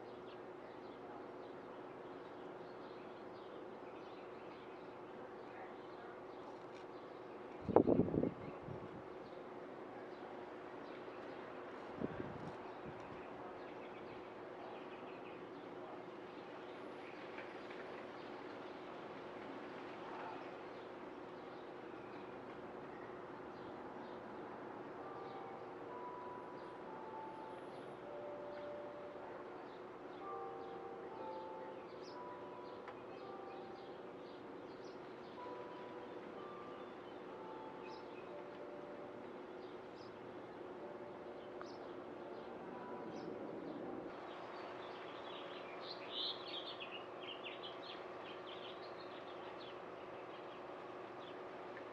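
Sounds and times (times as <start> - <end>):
birds chirping in distance: 0.0 - 51.9.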